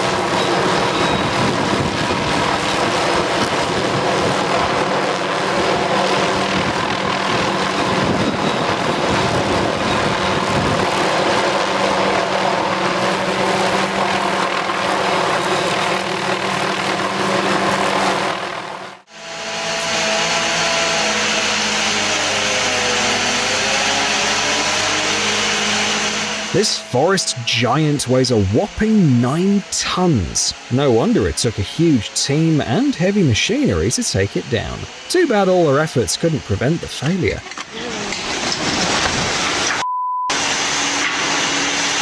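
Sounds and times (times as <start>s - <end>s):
engine with wavering whine: 0.0s - 42.0s
logging machinery engine: 0.0s - 42.0s.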